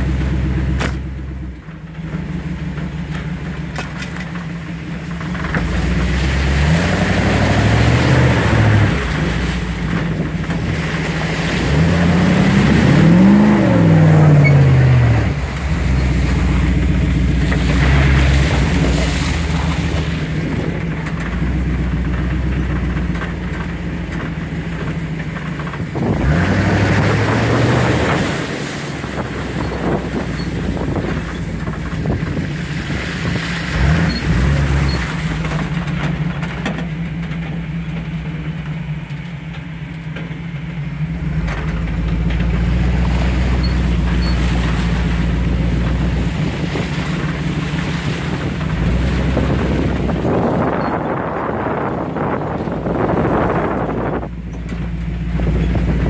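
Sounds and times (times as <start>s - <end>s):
knocks and rattles from bumps: 0.0s - 56.0s
vehicle engine running: 0.0s - 56.0s.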